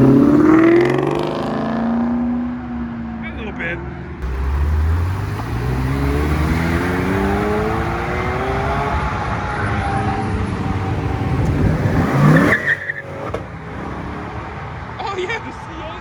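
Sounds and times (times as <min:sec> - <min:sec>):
car engine accelerating: 0:00.0 - 0:02.7, 0:04.2 - 0:15.3.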